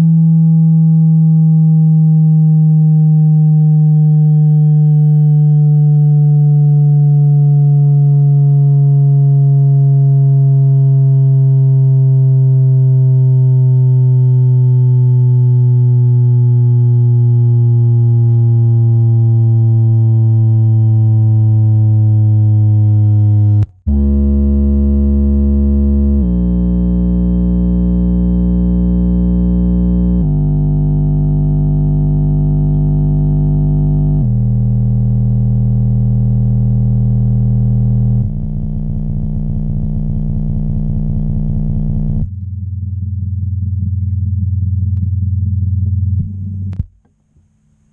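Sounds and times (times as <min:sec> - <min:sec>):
subwoofer deep bass tones: 0:00.0 - 0:47.9.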